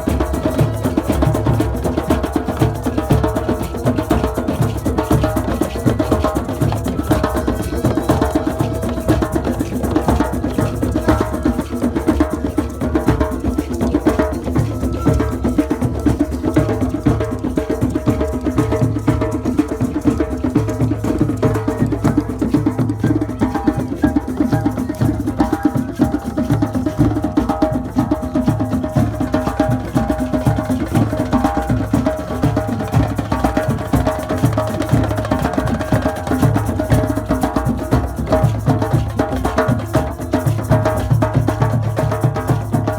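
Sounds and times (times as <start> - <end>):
fast drumming: 0.0 - 42.9.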